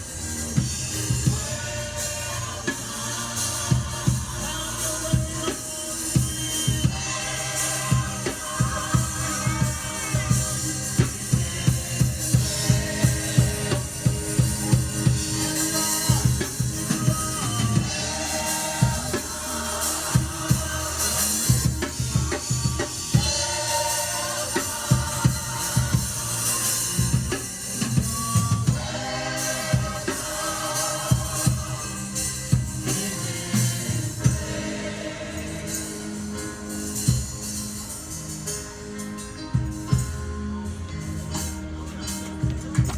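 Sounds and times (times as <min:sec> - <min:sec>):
drum kit beat: 0:00.0 - 0:42.9
worship music: 0:00.0 - 0:42.9.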